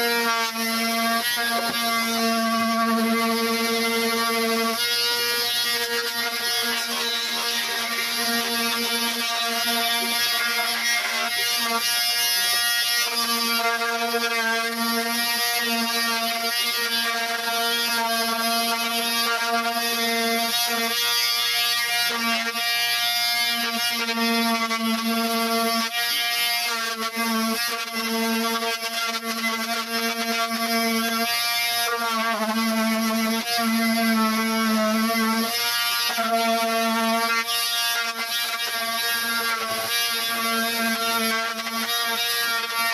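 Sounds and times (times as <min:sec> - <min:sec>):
oscillating power tool buzzing: 0:00.0 - 0:42.9.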